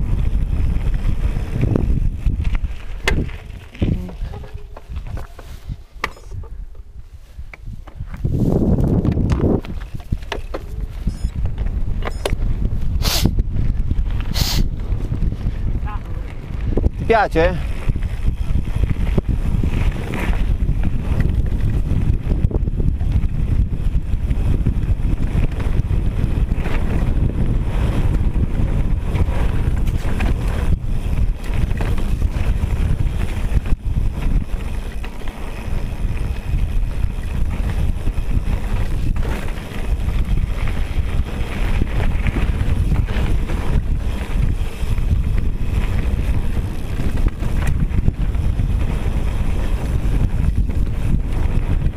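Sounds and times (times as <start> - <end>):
bike tyres clattering over gravel: 0.0 - 6.8, 7.6 - 12.8, 13.5 - 51.9
wind buffeting microphone: 0.0 - 51.9.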